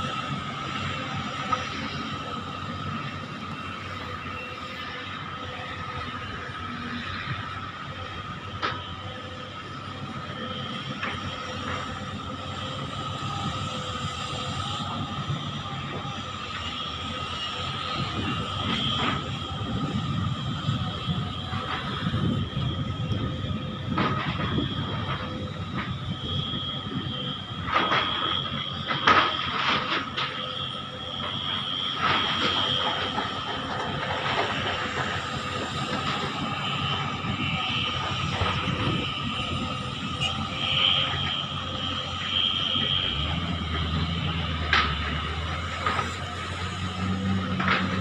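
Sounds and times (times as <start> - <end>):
excavator engine and hydraulics: 0.0 - 48.0
hydraulic whine: 0.0 - 48.0.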